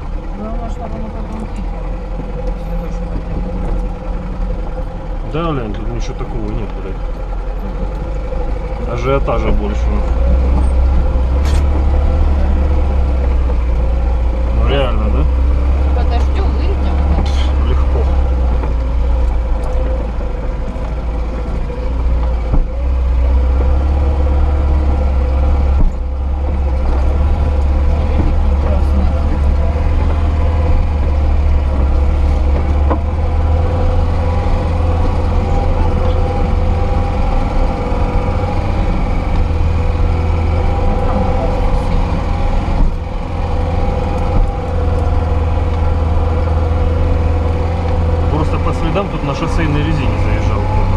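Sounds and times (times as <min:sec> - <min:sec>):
car engine droning: 0:00.0 - 0:50.9
constant whine: 0:00.0 - 0:50.9.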